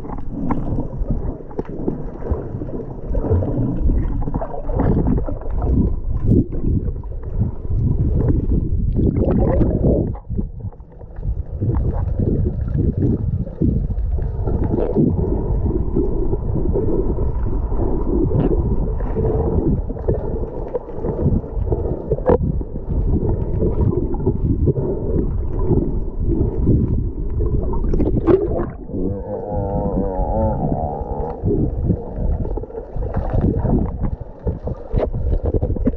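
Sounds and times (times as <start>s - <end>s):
muffled underwater rumble: 0.0s - 35.9s
underwater crackles and knocks: 0.0s - 35.9s.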